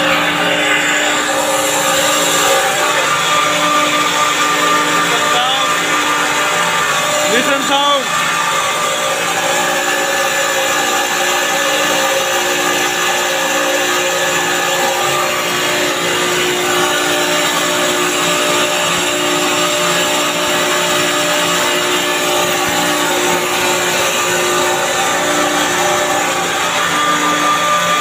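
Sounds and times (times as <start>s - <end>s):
compressor running: 0.0s - 28.0s.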